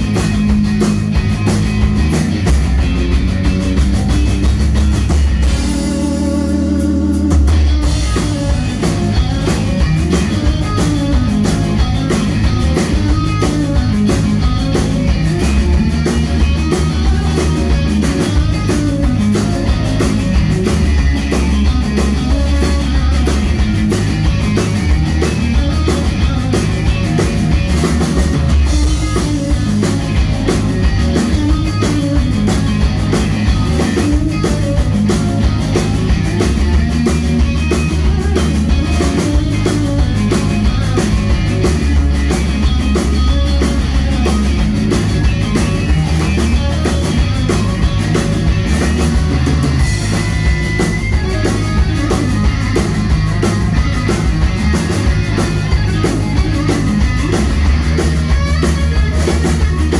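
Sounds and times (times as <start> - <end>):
bass guitar: 0.0 - 59.9
drum kit beat: 0.0 - 59.9
electric guitar: 0.0 - 59.9.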